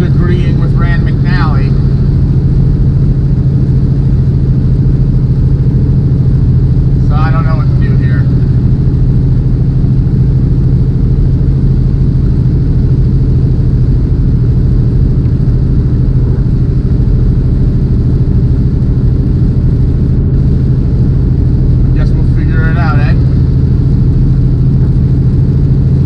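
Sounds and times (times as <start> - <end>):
road noise: 0.0 - 26.0
truck diesel engine drone: 0.0 - 26.0.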